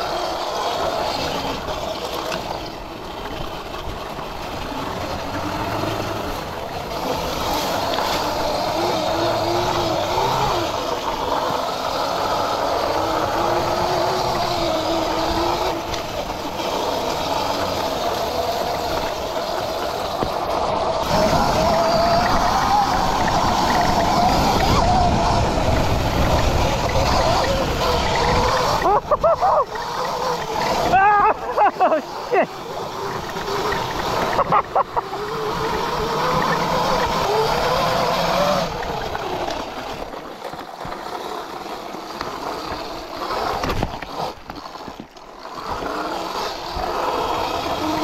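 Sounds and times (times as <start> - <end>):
electric dirt bike riding: 0.0 - 48.0
wavering motor whine: 0.0 - 48.0.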